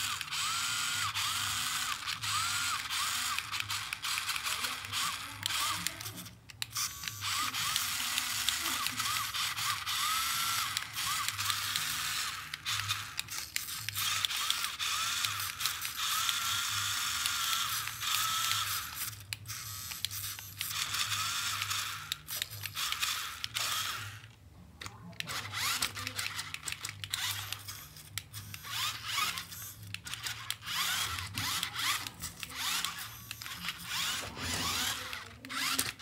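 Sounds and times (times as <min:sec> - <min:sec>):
toy car motors whirring: 0:00.0 - 0:36.0.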